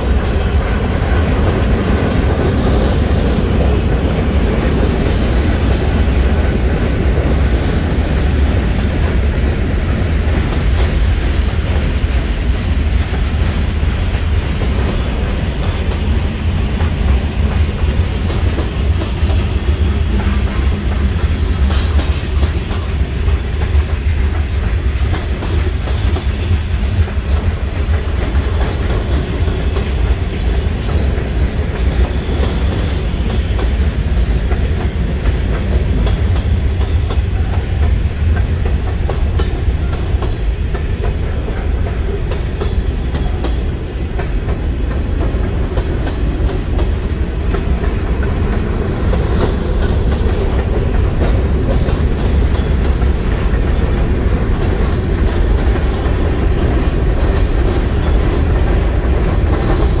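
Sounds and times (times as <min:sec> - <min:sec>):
freight train rumbling past: 0:00.0 - 1:00.0
wheels clacking over rails: 0:00.0 - 1:00.0.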